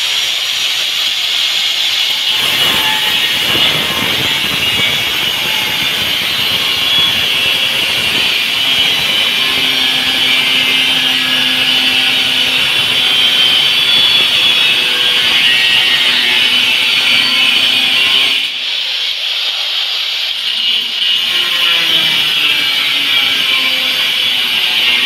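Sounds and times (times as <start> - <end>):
angle grinder cutting tile: 0.0 - 25.0.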